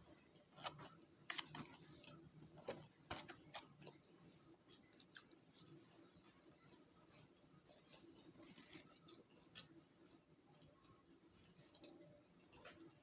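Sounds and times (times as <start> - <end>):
faint clicks and crackles: 0.0 - 13.0.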